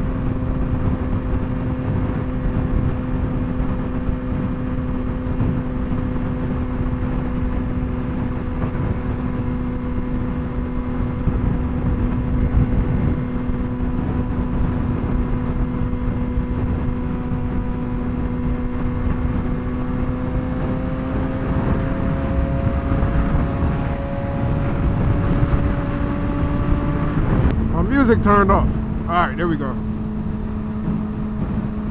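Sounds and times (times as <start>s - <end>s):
motorcycle engine cruising: 0.0s - 27.8s, 29.8s - 31.9s.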